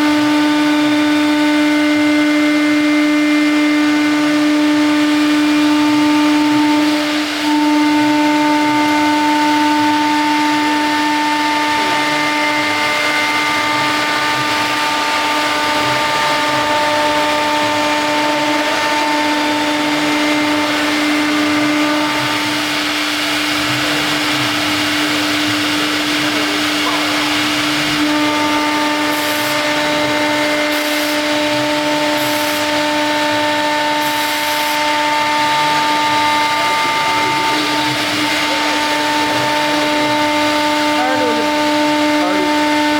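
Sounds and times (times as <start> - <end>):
router spindle whine: 0.0 - 42.9.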